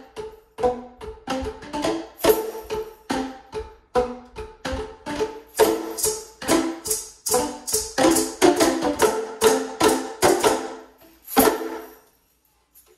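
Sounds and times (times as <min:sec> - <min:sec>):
tuned plastic tubes playing blues: 0:00.0 - 0:12.0.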